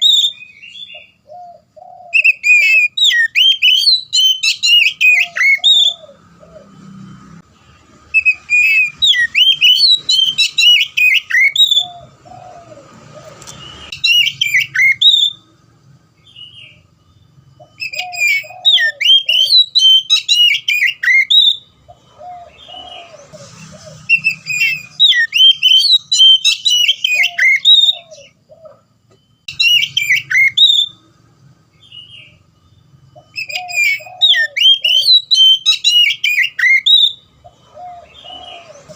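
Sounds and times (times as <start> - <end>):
bird singing whistled phrases: 0.0 - 1.2, 2.1 - 6.2, 8.1 - 12.2, 13.6 - 15.4, 16.2 - 21.7, 22.5 - 28.4, 29.2 - 31.0, 31.8 - 38.9.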